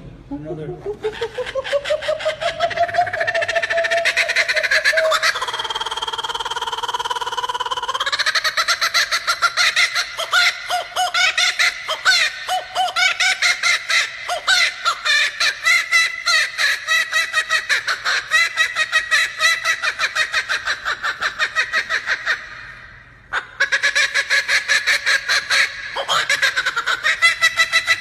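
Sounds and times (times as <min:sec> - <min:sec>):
kookaburra laughing call: 0:00.3 - 0:28.0.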